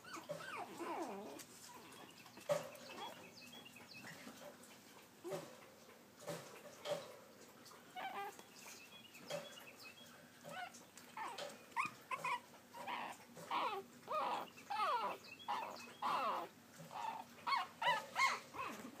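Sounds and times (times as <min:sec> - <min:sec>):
puppies whimpering and yipping: 0:00.0 - 0:04.3, 0:07.9 - 0:19.0.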